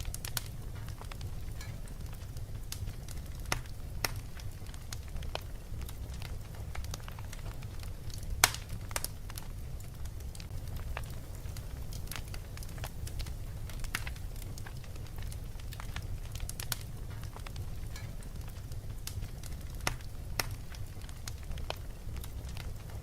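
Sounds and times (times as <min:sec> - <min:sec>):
steady low rumble: 0:00.0 - 0:23.0
wood fire crackling and popping: 0:00.0 - 0:23.0.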